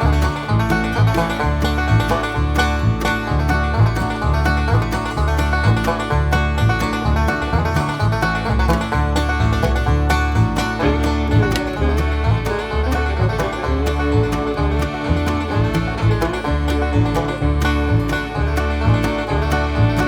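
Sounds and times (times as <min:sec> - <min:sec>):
bluegrass banjo and guitar music: 0:00.0 - 0:20.0.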